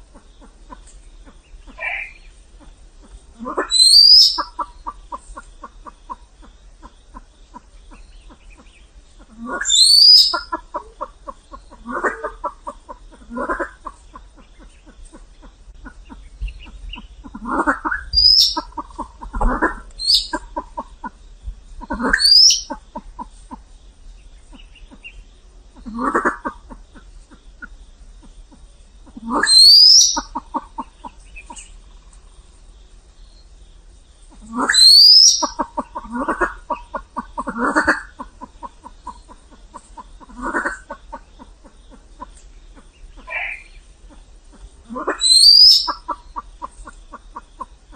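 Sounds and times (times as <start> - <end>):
pheasants clucking: 0.0 - 47.9.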